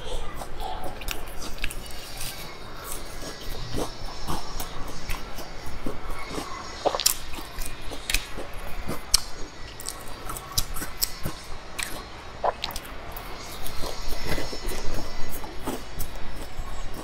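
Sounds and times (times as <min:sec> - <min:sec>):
biting and chewing pastry: 0:00.0 - 0:17.0.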